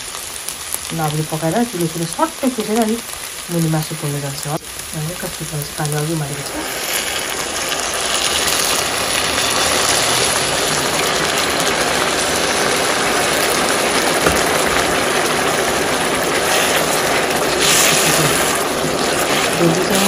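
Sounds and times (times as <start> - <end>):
pan sizzling and bubbling: 0.0 - 20.0.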